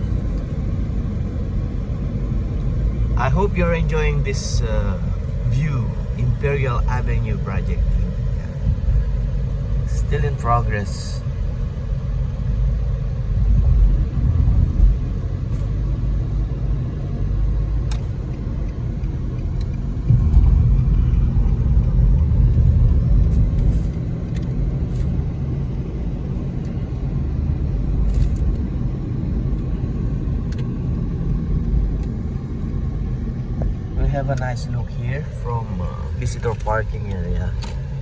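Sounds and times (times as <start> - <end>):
traffic low rumble: 0.0 - 38.0.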